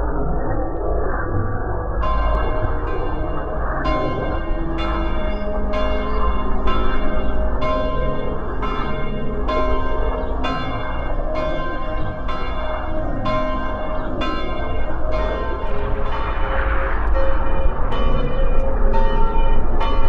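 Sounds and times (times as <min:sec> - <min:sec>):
steady low rumble: 0:00.0 - 0:20.0
bell-like metallic strikes: 0:02.0 - 0:20.0.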